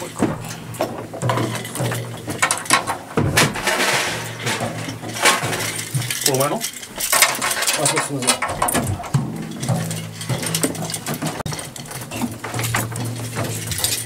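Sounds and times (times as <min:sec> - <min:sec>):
drums struck while tuning: 0:00.0 - 0:14.0.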